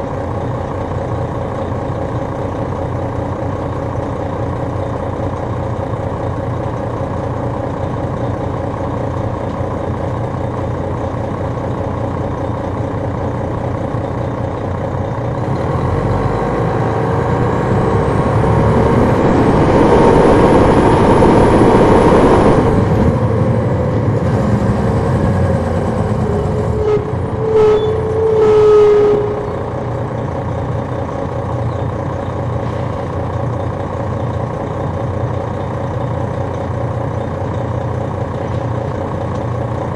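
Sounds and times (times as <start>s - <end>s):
diesel coach engine running: 0.0s - 39.9s.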